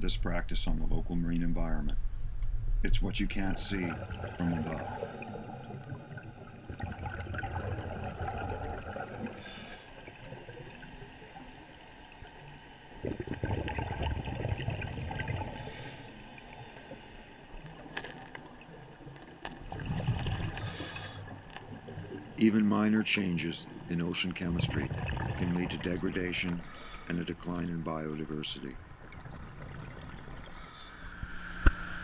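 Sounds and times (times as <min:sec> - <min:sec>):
underwater rumbling swash: 0:01.6 - 0:11.6, 0:12.9 - 0:22.4, 0:23.6 - 0:27.0, 0:28.8 - 0:32.0.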